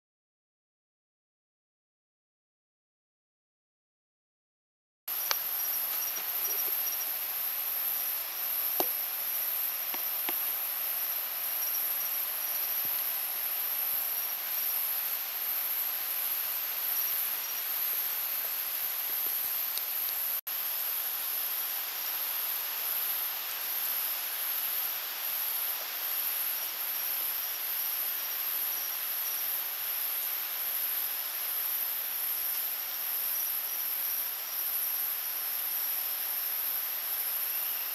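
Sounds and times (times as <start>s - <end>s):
high-pitched insect trill: 5.1s - 37.9s
lower insect trill: 5.1s - 37.9s
soft hiss: 5.1s - 37.9s.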